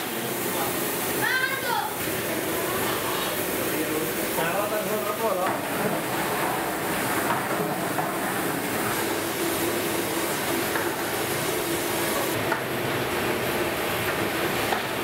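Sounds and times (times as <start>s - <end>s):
gas burners rushing: 0.0s - 15.0s.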